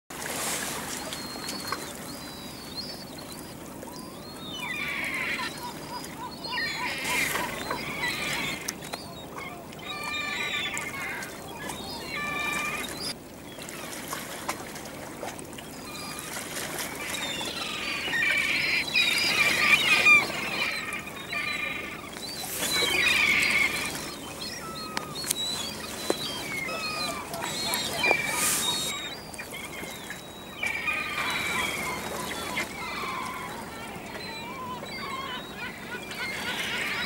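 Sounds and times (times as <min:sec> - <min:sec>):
moving water: 0:00.1 - 0:37.0
waterbirds calling: 0:00.1 - 0:37.0.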